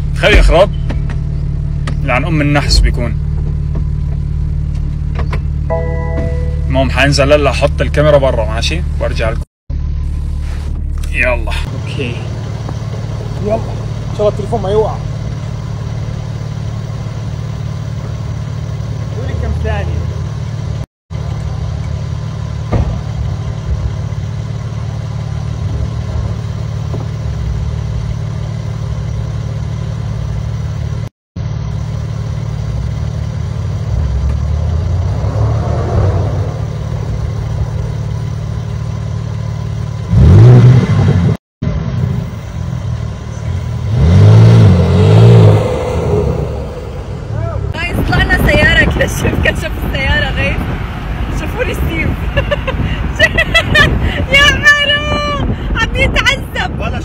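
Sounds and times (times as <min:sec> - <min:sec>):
car engine idling: 0:00.0 - 0:40.4, 0:41.6 - 0:57.0.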